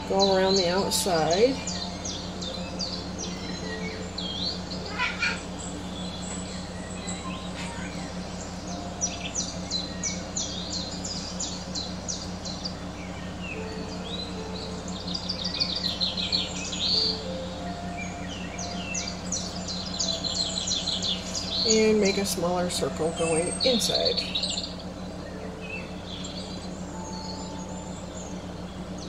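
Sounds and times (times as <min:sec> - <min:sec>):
small bird chirping: 0:00.0 - 0:29.0
steady low hum: 0:00.0 - 0:29.0.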